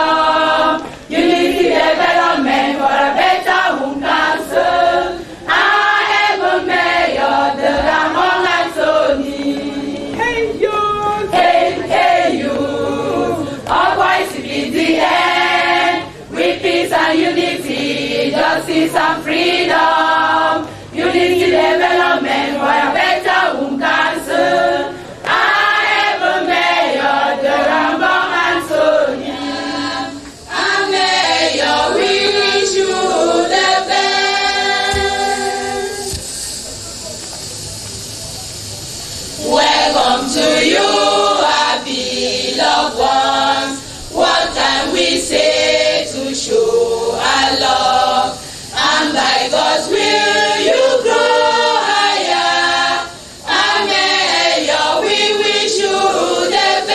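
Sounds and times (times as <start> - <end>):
choir of women singing: 0.0 - 36.6, 39.3 - 56.9.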